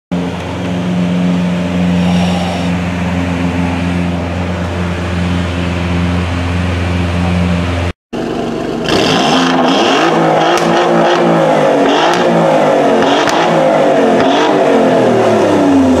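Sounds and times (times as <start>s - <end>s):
car engine idling: 0.1s - 16.0s
car engine revving: 0.1s - 16.0s
exhaust cracks: 0.3s - 15.2s.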